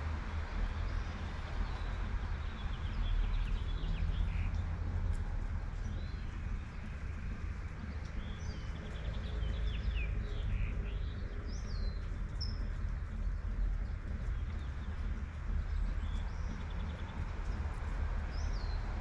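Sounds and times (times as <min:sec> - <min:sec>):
low rumble of city traffic: 0:00.0 - 0:19.0.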